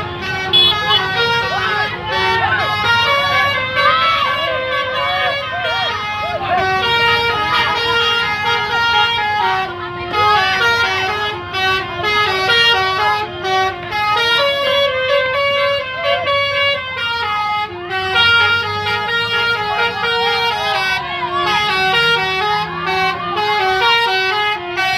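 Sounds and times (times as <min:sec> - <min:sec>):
multi-tone musical horn melody: 0:00.0 - 0:24.9.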